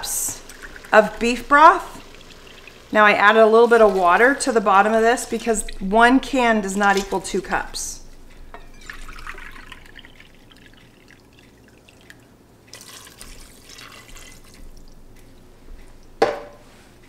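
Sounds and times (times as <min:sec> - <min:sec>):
liquid pouring: 0:00.0 - 0:15.4.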